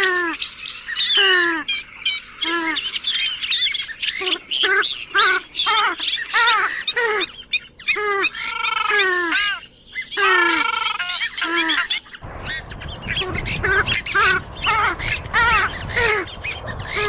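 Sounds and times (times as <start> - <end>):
swamphen calling: 0.0 - 17.0.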